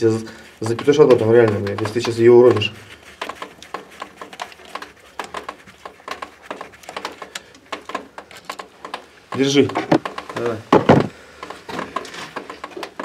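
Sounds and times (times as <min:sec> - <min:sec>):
hand tools clicking: 0:00.0 - 0:13.0.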